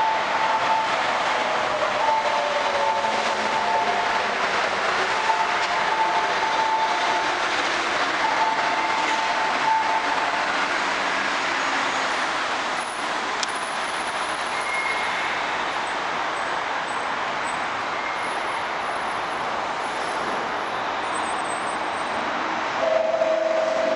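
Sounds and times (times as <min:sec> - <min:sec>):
monorail train mechanical noise: 0:00.0 - 0:23.9.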